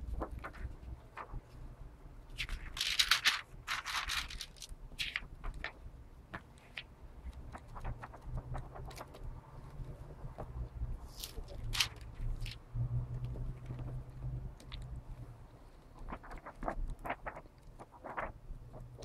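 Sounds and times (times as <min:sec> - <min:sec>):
paper rustling and crackling: 0:00.0 - 0:01.7, 0:02.3 - 0:12.6, 0:15.8 - 0:19.0.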